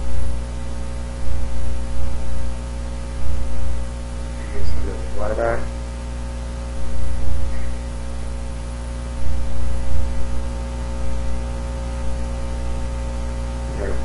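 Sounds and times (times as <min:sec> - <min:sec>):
electrical hum: 0:00.0 - 0:14.0
microphone hiss: 0:00.0 - 0:14.0.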